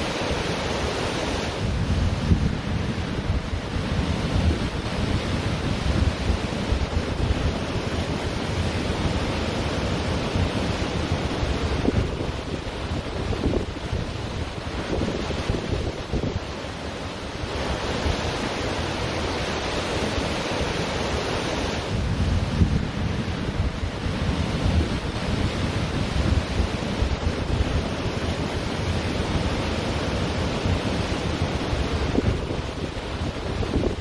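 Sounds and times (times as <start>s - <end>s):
ocean surf on a beach: 0.0s - 34.0s
wind rumbling on microphone: 0.0s - 34.0s.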